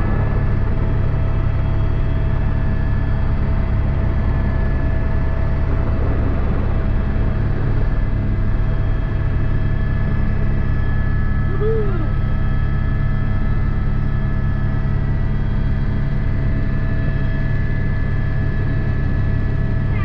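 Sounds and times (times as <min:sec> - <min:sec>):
helicopter turbine whine and rotor: 0:00.0 - 0:20.0.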